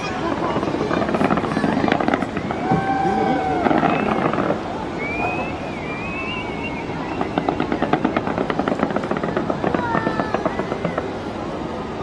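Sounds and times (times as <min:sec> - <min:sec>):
crowd noise: 0:00.0 - 0:12.0
fireworks crackling: 0:00.0 - 0:12.0
gliding firework whistles: 0:00.8 - 0:11.4.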